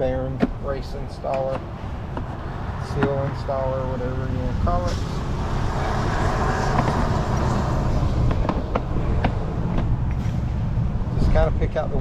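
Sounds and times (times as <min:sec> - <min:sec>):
vehicle passing: 0:01.0 - 0:12.0
wind rumbling on microphone: 0:01.6 - 0:12.0.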